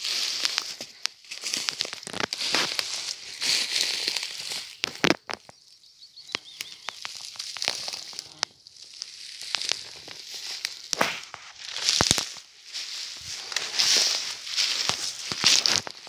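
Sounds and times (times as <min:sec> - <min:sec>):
brush rustling: 0:00.0 - 0:05.5, 0:06.4 - 0:16.0
twigs crackling underfoot: 0:00.0 - 0:16.0.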